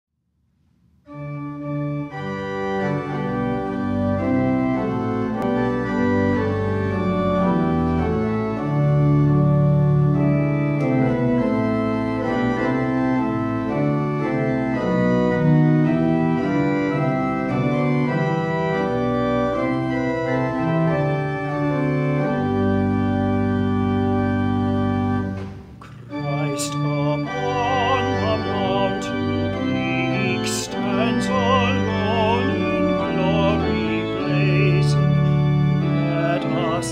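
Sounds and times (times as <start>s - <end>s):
pipe organ chords: 1.0s - 36.9s.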